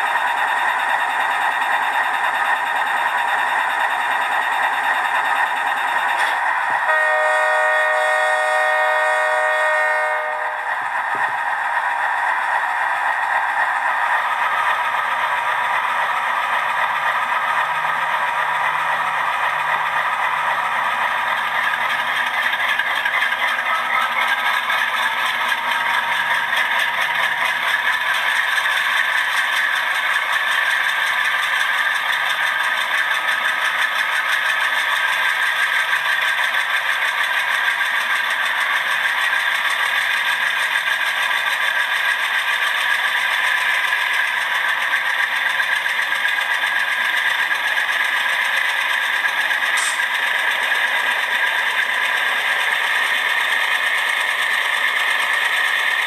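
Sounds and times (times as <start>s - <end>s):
diesel engine sound from small speaker: 0.0s - 56.0s.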